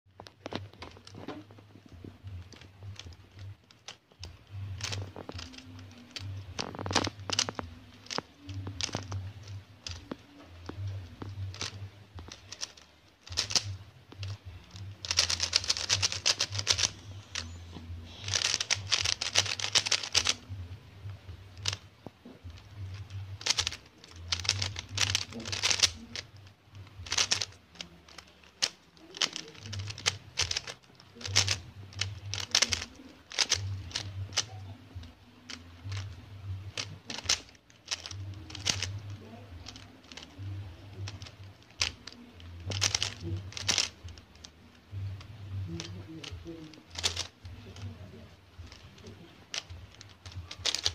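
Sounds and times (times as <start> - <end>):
puzzle cube clicking and rattling: 0.2 - 50.9.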